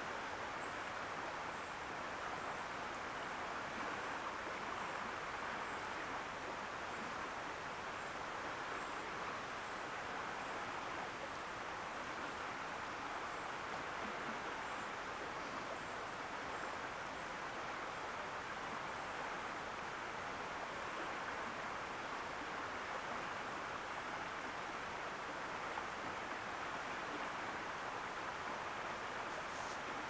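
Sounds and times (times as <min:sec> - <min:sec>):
river rushing: 0:00.0 - 0:30.0.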